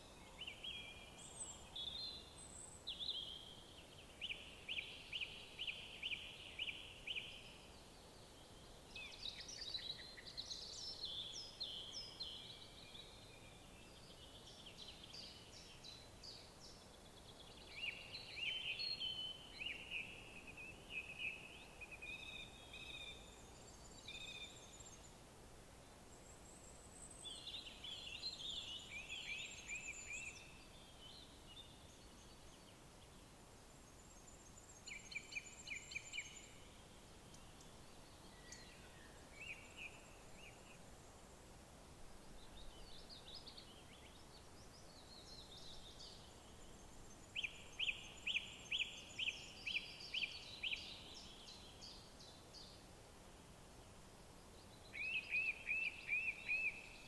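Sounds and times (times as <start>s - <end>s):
songbirds singing: 0.0s - 25.3s, 25.9s - 41.5s, 42.2s - 52.9s, 53.5s - 57.0s
faint background hiss: 0.0s - 57.0s.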